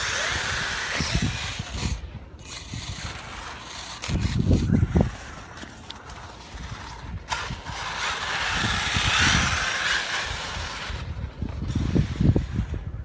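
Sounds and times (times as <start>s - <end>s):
rc truck motor whirring: 0.0s - 13.0s
wind rumbling on microphone: 0.0s - 13.0s.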